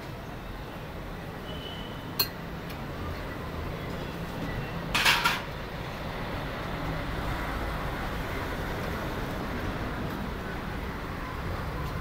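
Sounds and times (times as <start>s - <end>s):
traffic running: 0.0s - 12.0s.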